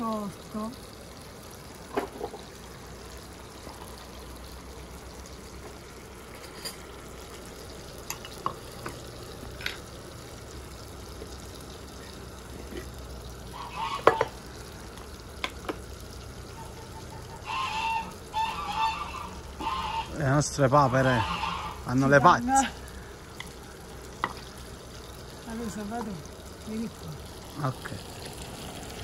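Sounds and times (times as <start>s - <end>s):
tomatoes sizzling in a pan: 0.0s - 29.0s.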